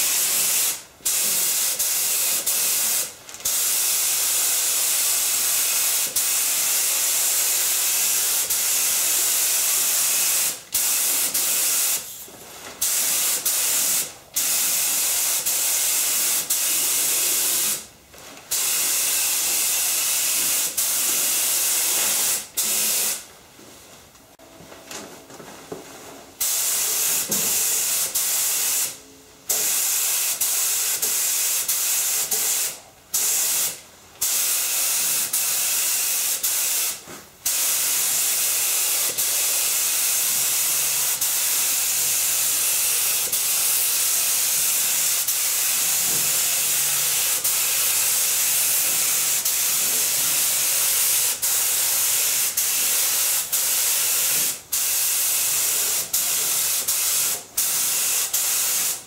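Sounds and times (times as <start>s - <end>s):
spray gun hissing: 0.0s - 12.1s, 12.8s - 17.9s, 18.5s - 23.2s, 29.6s - 59.0s.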